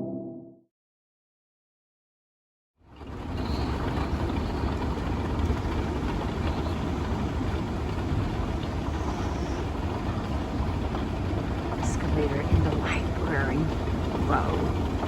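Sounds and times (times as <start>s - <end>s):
escalator machinery rumbling: 2.9s - 15.0s.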